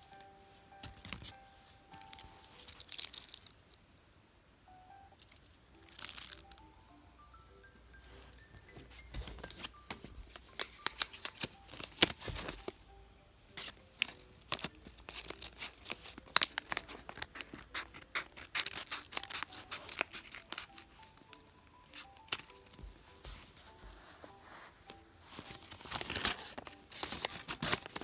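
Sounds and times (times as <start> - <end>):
packaging being opened by hand: 0.2 - 3.6, 5.2 - 6.7, 8.5 - 12.9, 13.6 - 28.0.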